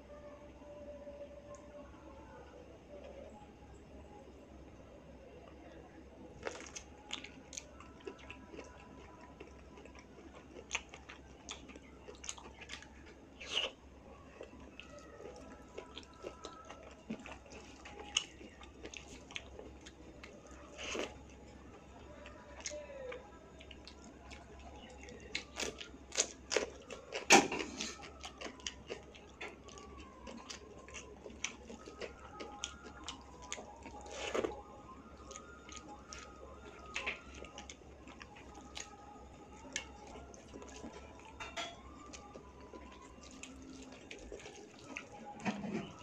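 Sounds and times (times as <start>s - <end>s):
chewing and lip-smacking: 6.4s - 46.0s.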